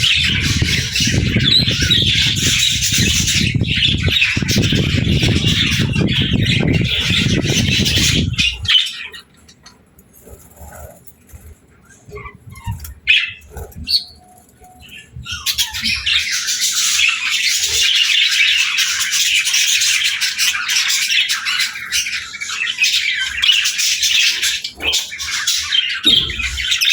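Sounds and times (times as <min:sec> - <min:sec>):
budgerigars chattering and chirping: 0:00.0 - 0:26.9.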